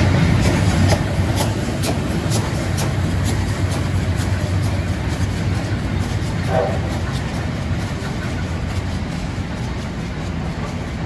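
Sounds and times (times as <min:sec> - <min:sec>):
clicking of train wheels: 0:00.0 - 0:11.0
train rumbling on rails: 0:00.0 - 0:11.0.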